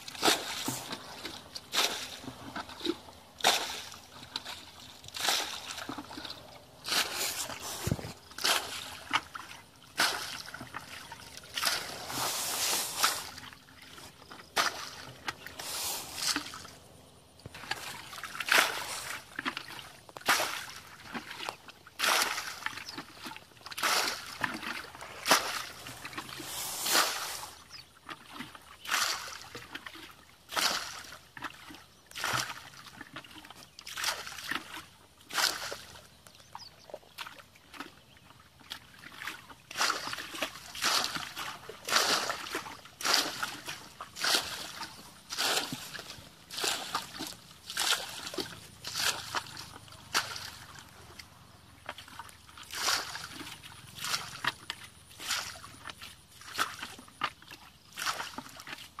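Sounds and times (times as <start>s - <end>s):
water splashing from bucket: 0.0s - 16.8s, 17.4s - 36.0s, 37.1s - 59.0s.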